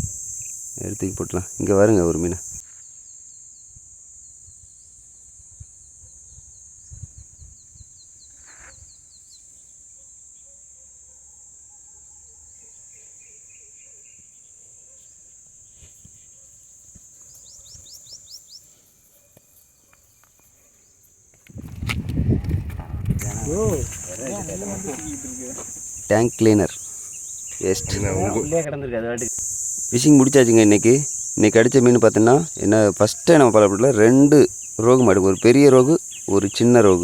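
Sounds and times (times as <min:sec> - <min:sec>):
insects buzzing high-pitched: 0:00.0 - 0:22.1, 0:23.2 - 0:37.0.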